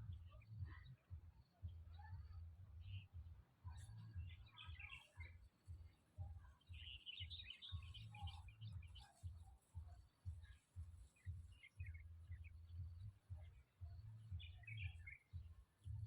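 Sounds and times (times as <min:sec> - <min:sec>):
faint bird chirping: 0:00.0 - 0:16.0
pulsing low rumble: 0:00.0 - 0:16.0.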